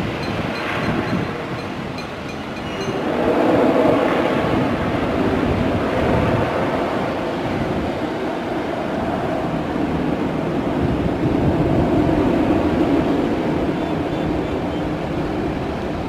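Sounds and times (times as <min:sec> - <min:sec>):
distant aircraft engines: 0:00.0 - 0:16.0.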